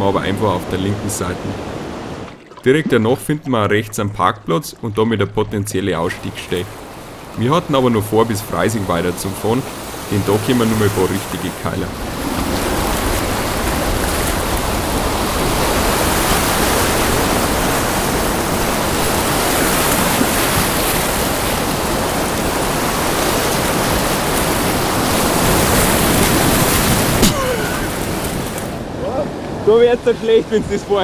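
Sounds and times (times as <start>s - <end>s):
whitewater rushing: 0.0s - 31.0s.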